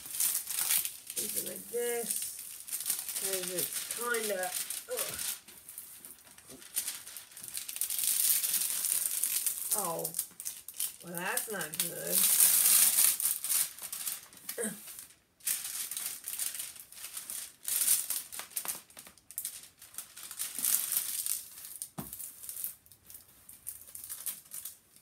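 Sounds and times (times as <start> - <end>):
plastic film crinkling: 0.0 - 25.0.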